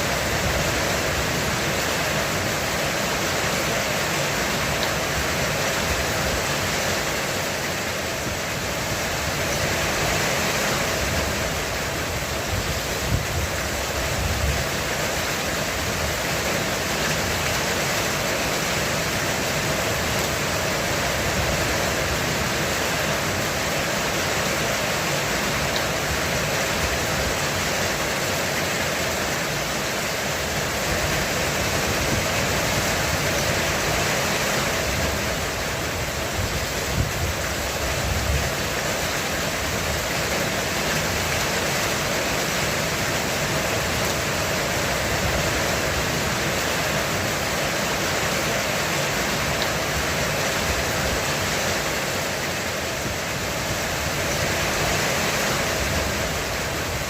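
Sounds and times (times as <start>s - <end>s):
heavy rain drumming on a roof: 0.0s - 57.0s.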